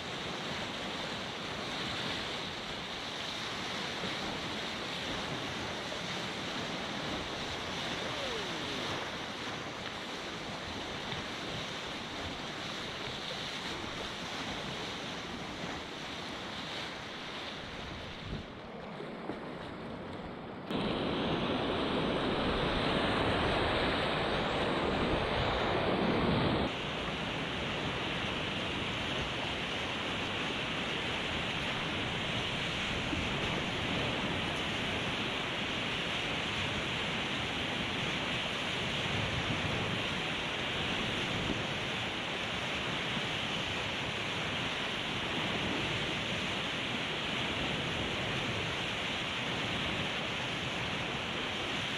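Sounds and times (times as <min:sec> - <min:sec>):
river rapids roaring: 0:00.0 - 0:51.9.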